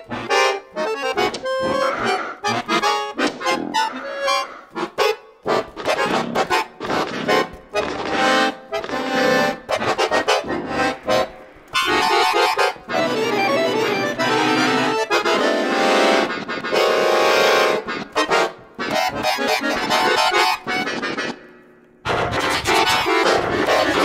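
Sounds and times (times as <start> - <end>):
button accordion playing: 0.0 - 24.0.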